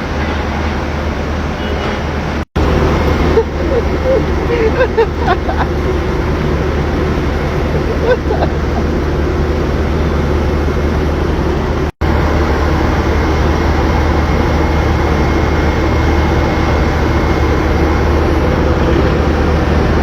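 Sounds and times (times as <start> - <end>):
engine noise: 0.0 - 20.0.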